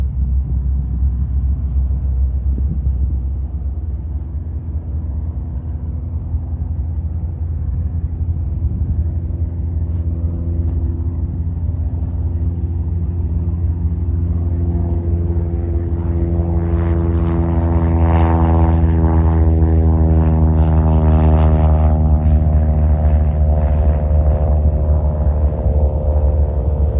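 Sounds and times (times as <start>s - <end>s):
propeller plane engine drone: 0.0s - 26.9s.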